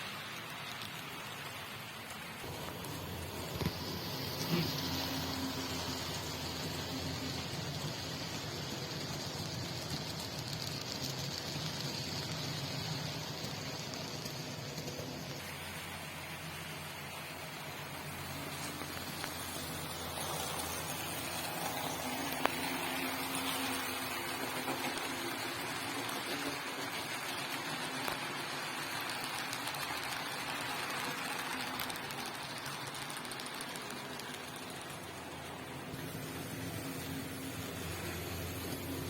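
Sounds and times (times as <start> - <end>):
model train motor hum: 0.0 - 39.0.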